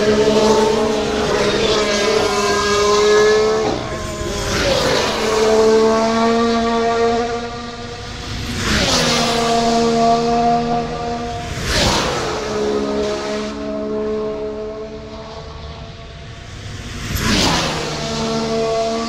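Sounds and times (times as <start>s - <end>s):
racing cars passing at speed: 0.0s - 19.0s.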